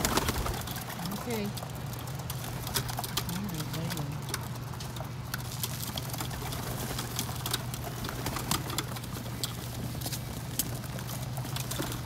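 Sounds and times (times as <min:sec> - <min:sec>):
beaks pecking on roof: 0:00.0 - 0:12.0
steady low hum: 0:00.0 - 0:12.0
wings fluttering: 0:00.0 - 0:12.0.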